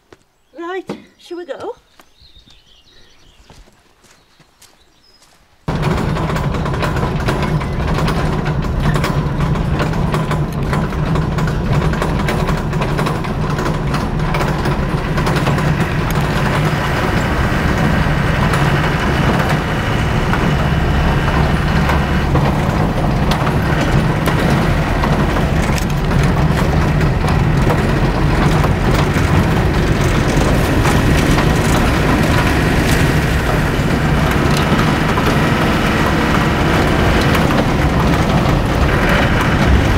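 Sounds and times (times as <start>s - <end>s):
road noise: 0.0s - 39.9s
bodywork rattles and knocks: 5.7s - 39.9s
engine drone: 5.7s - 39.9s.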